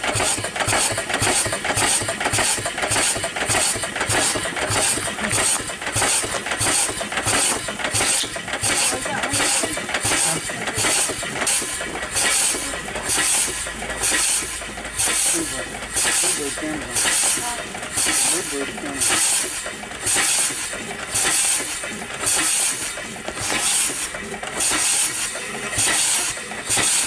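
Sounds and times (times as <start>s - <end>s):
steam engine exhaust chuffing: 0.0s - 27.0s
steam hissing: 0.0s - 27.0s.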